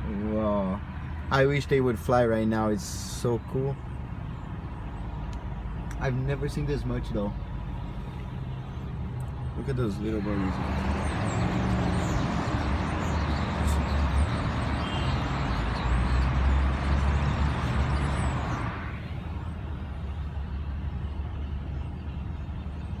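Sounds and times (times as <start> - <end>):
background traffic rumble: 0.0 - 23.0
vehicle passing with low rumble: 3.8 - 23.0.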